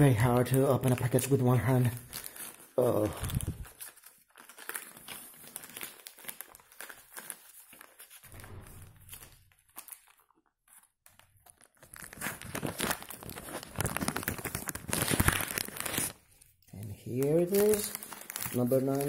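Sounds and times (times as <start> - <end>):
plastic mailer bag crinkling: 0.0 - 19.0.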